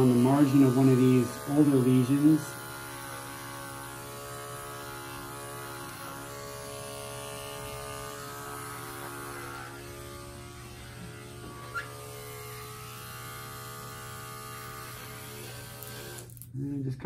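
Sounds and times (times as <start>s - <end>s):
electric hair clippers buzzing: 0.0s - 16.6s.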